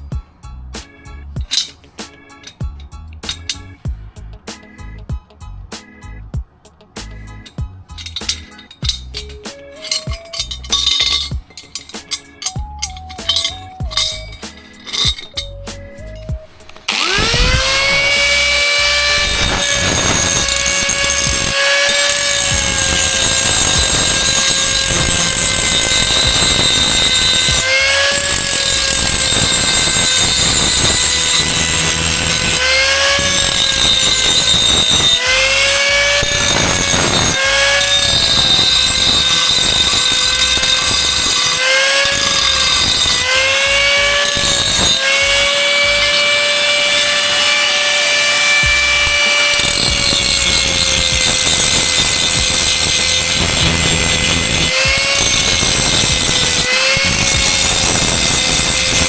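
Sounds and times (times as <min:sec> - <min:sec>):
angle grinder cutting metal: 0:01.4 - 0:02.6, 0:03.2 - 0:03.7, 0:07.4 - 0:59.0.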